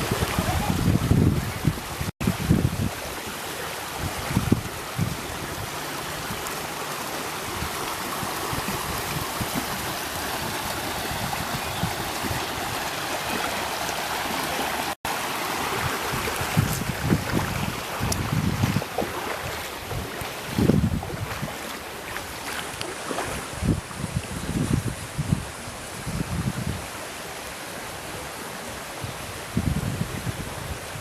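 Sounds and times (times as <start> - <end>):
wind buffeting microphone: 0.0 - 3.2, 3.9 - 6.5, 7.4 - 14.8, 15.4 - 27.0, 28.9 - 31.0
rushing floodwater: 0.0 - 31.0.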